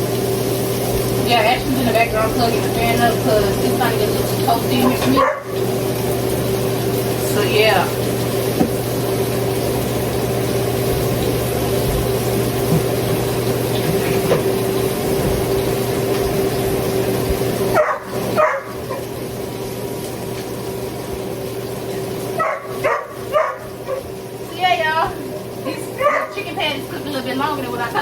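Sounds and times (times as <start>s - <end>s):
electric fan humming: 0.0s - 28.0s.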